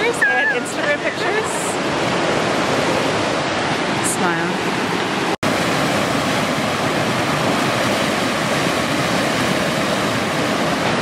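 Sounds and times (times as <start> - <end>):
white water rushing over rocks: 0.0 - 11.0.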